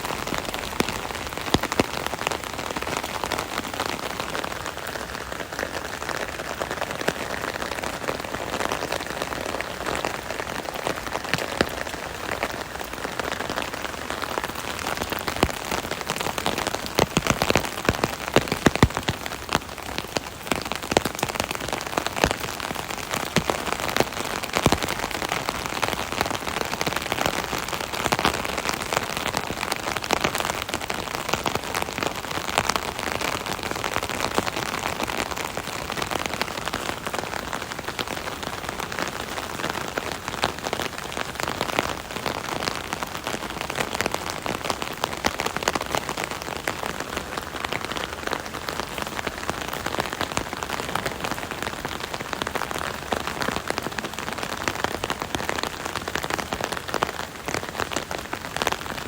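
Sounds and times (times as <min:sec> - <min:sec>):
rain on umbrella: 0:00.0 - 0:59.0.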